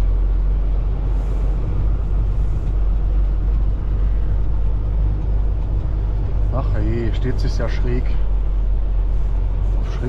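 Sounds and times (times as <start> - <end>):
diesel truck engine rumble: 0.0 - 10.0
road and cab noise: 0.0 - 10.0.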